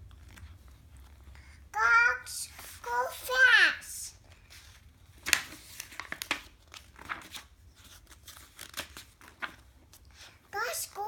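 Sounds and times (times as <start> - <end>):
book pages rustling: 0.0 - 1.6, 2.5 - 3.5, 4.2 - 11.0.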